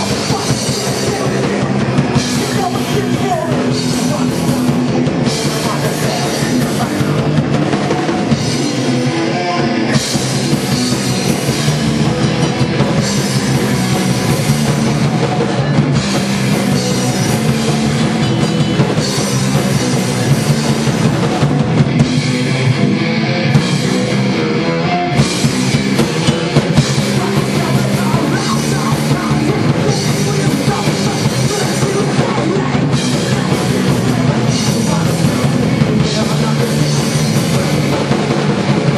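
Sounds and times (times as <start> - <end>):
loud drum kit: 0.0 - 38.9
punk rock band playing live: 0.0 - 38.9.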